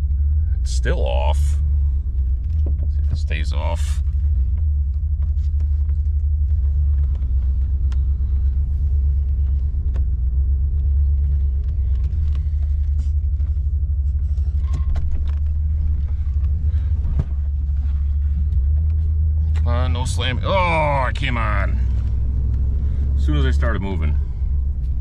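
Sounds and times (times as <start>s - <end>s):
van cab rumble: 0.0s - 25.0s.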